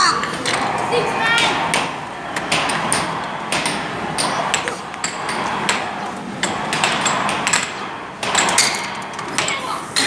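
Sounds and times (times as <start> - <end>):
steady background din: 0.0 - 10.0
air hockey puck and mallets clacking: 1.3 - 10.0.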